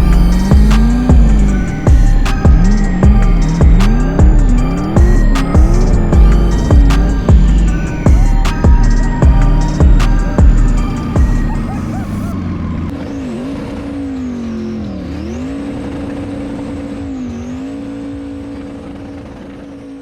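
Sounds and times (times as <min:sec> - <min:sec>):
car engine at high revs: 0:00.0 - 0:20.0
faint high turbo whine: 0:00.0 - 0:20.0.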